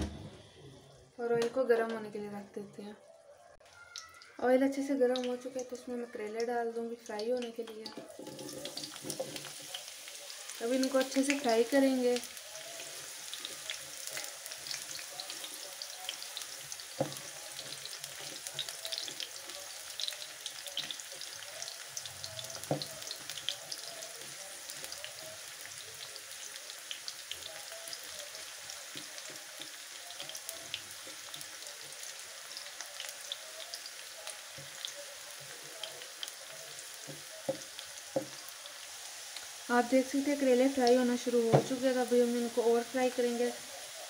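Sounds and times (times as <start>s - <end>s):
vegetables sizzling in oil: 3.7s - 44.0s.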